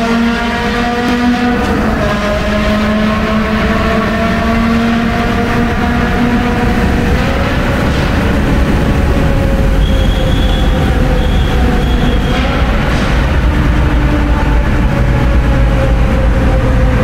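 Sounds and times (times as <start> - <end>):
car engine revving hard: 0.0 - 17.0
road and wind noise in tunnel: 0.0 - 17.0.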